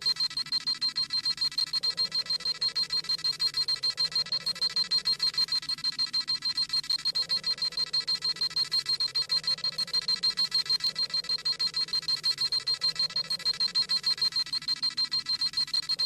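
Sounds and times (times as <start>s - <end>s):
fast electronic beeping: 0.0s - 16.0s.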